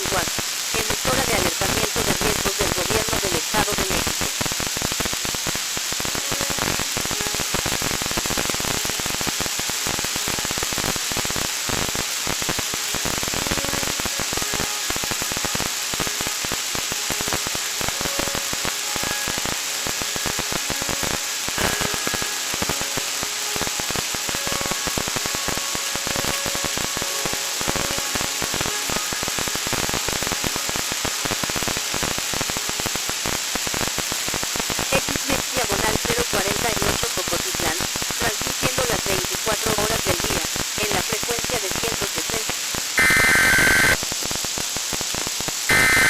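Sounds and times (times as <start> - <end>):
faint steady tones: 0.0 - 44.0
radio static: 0.0 - 46.0.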